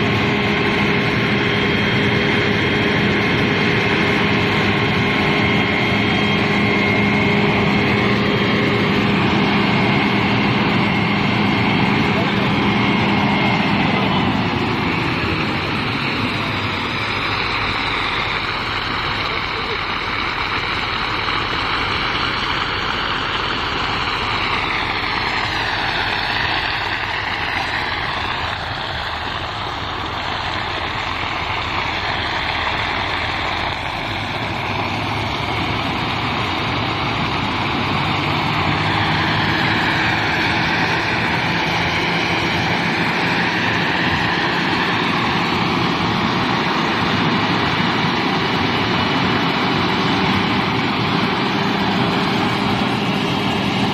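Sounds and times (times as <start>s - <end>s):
robot engine and blower noise: 0.0s - 53.9s.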